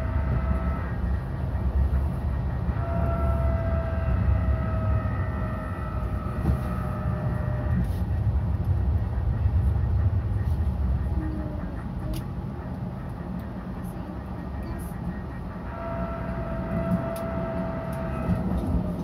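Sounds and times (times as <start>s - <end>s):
tram rumbling on track: 0.0s - 19.0s.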